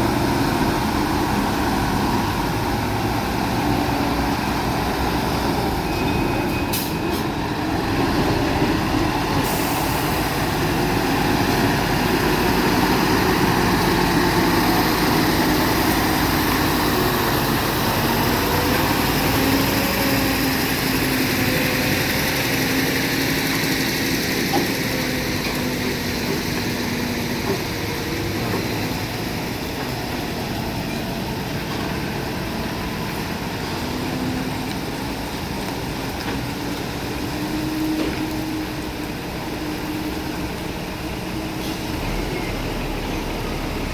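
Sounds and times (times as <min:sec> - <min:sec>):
diesel truck engine running: 0:07.4 - 0:43.9.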